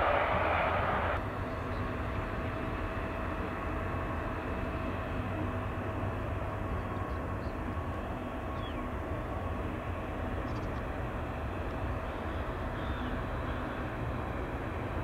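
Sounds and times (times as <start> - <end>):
turboprop aircraft rumble: 0.0 - 15.0.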